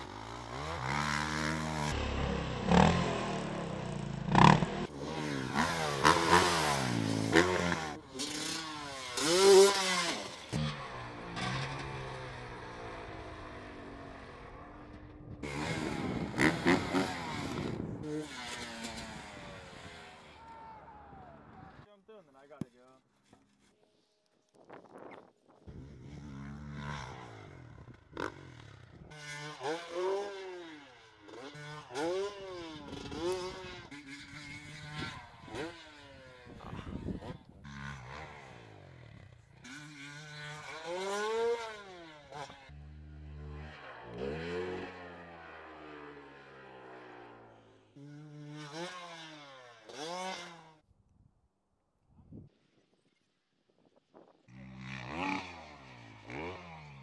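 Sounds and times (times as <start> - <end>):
dirt bike engines revving: 0.0 - 23.9, 24.6 - 50.8, 53.8 - 57.0.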